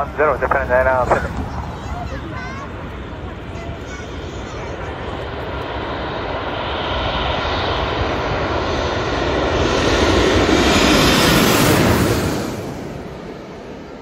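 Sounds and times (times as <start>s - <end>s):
jet airliner passing overhead: 0.0s - 14.0s.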